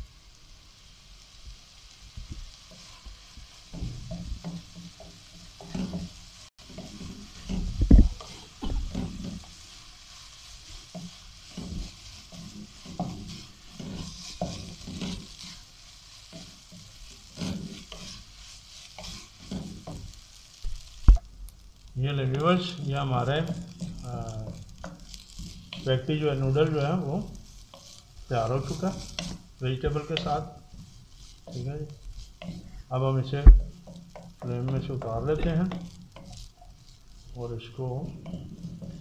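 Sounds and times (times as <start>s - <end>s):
food sizzling in a wok: 0.0s - 39.0s
spatula scraping and knocking pan: 1.8s - 21.3s, 22.3s - 39.0s.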